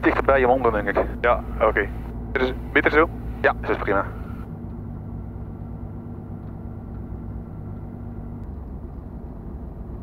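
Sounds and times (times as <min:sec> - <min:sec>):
aircraft engine and propeller hum: 0:00.0 - 0:10.0.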